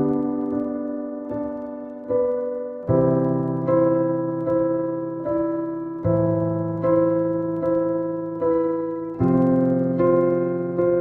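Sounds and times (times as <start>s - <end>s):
slow piano notes: 0.0s - 11.0s.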